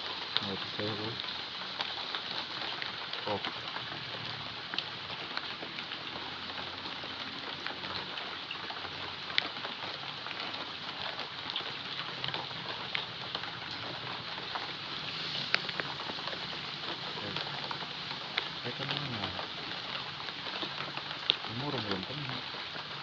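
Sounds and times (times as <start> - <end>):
rain falling: 0.0 - 23.0
sharp ticks of raindrops: 0.0 - 23.0.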